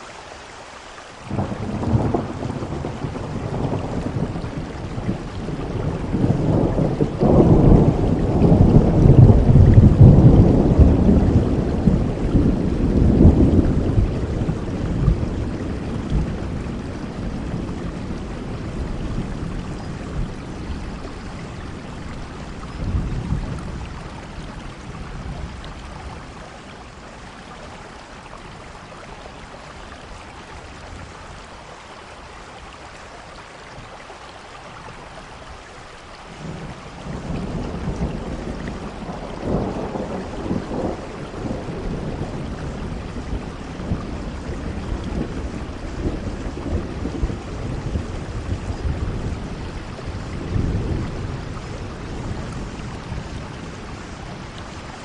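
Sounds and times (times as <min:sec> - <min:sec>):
steady rainfall: 0:00.0 - 0:55.0
thunder rumbling: 0:01.3 - 0:27.5, 0:36.4 - 0:55.0.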